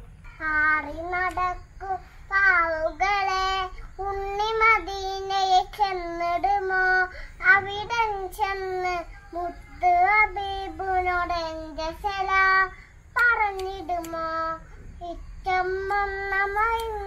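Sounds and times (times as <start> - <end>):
child singing: 0.2 - 17.0.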